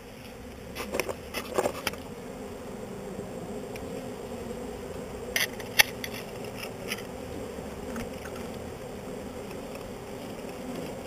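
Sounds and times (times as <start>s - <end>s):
bee swarm humming: 0.0s - 11.0s.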